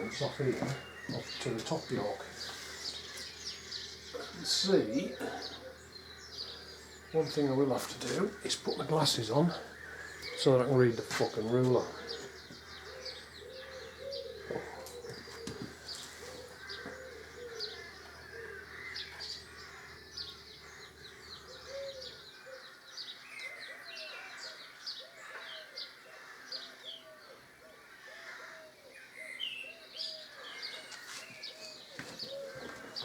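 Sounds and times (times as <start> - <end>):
birds chirping and twittering: 0.0 - 33.0
low arched bird call: 0.0 - 33.0.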